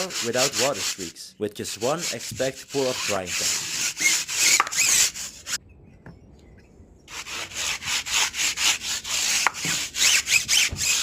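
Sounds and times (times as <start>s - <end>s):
brush scrubbing car: 0.0s - 5.6s, 7.1s - 11.0s.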